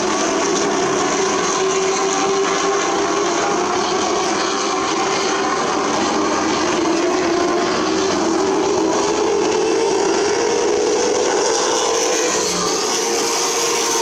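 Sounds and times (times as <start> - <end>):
stock car engines racing: 0.0 - 14.0.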